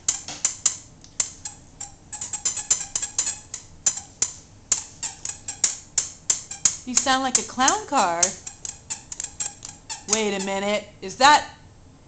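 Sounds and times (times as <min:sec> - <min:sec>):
squeaky toy squeaks: 0:00.0 - 0:10.7.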